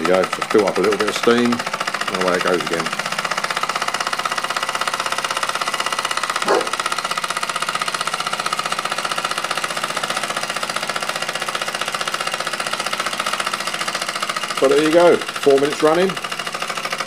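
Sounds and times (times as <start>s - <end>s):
toy steam engine chuffing: 0.0s - 17.0s.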